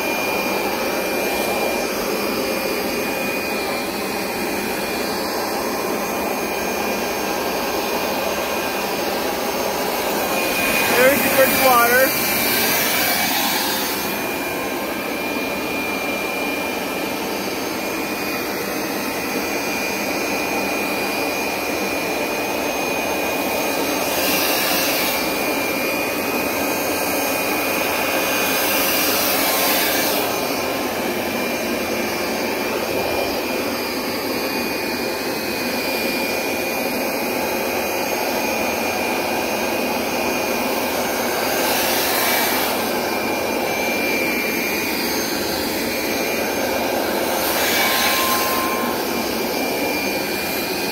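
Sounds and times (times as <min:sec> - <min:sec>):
carpet cleaner suction motor whine: 0:00.0 - 0:50.9.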